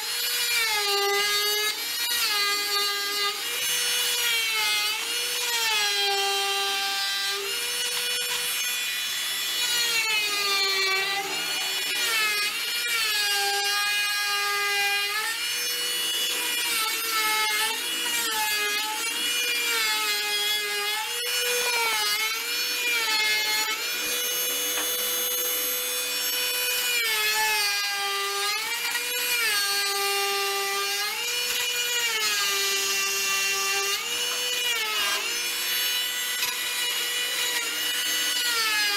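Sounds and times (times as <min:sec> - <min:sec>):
multi-tool cutting wood whine: 0:00.0 - 0:38.9.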